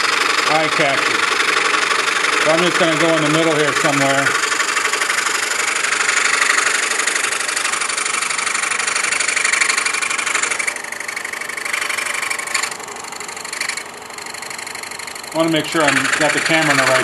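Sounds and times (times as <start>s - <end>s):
scroll saw cutting wood: 0.0s - 17.0s.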